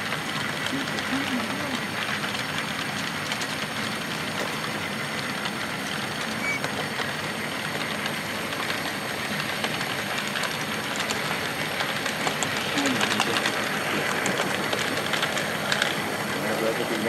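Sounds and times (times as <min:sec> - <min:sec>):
model train cars rolling: 0:00.0 - 0:17.0
wheels clicking on rail: 0:00.0 - 0:17.0.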